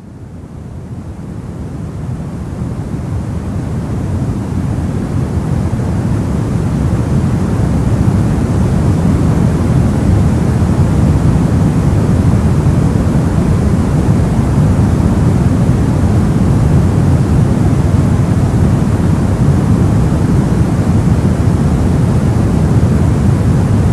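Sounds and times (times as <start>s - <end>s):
deep white noise hiss: 0.0s - 23.9s.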